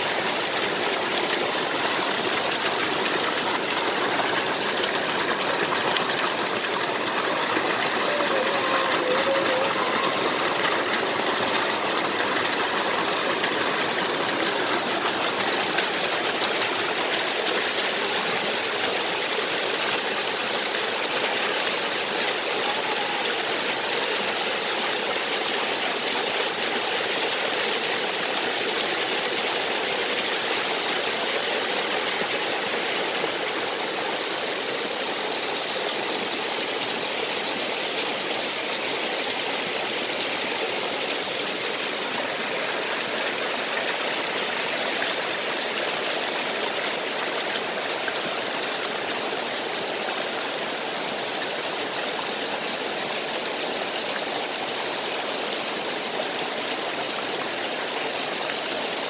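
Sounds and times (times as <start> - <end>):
stream and waterfall flowing: 0.0 - 59.0.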